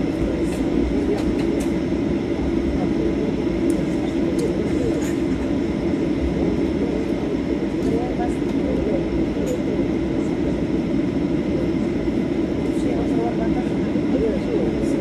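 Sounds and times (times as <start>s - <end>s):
faint passenger voices: 0.0s - 15.0s
jet engines droning: 0.0s - 15.0s.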